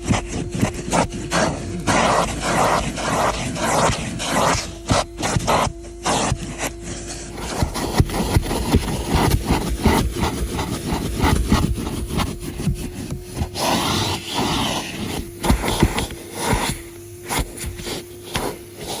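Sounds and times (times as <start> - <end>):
vacuum cleaner motor hum: 0.0 - 19.0
vacuum nozzle scraping and knocking: 0.0 - 19.0.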